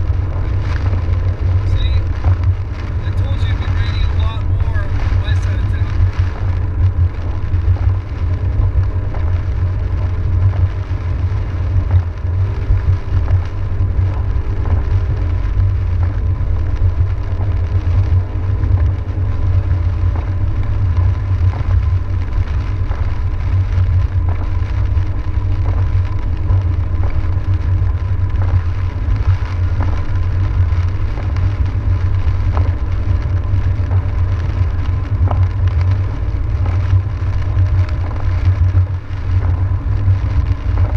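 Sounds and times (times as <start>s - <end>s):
car engine and tyres rumbling: 0.0s - 40.9s
rain ticking on car: 0.0s - 40.9s.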